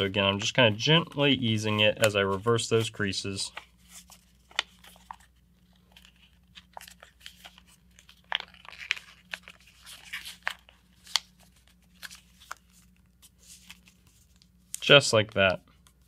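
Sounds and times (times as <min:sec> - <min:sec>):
paper crinkling and crackling: 0:00.0 - 0:16.0.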